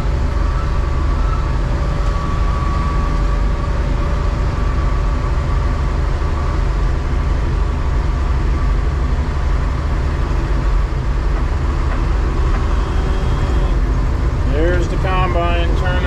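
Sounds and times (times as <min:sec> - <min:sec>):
combine engine rumble: 0:00.0 - 0:16.0
steady engine whine: 0:00.0 - 0:16.0.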